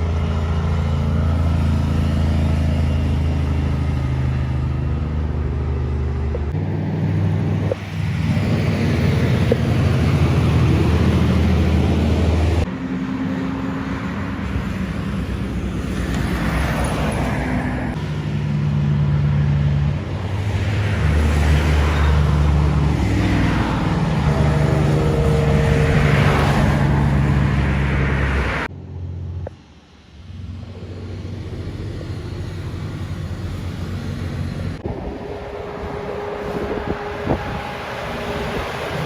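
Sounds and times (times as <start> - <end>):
road noise: 0.0 - 39.0.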